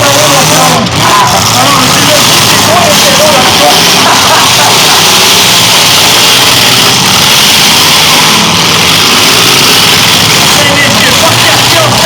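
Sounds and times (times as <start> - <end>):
car engines running together: 0.0 - 12.0.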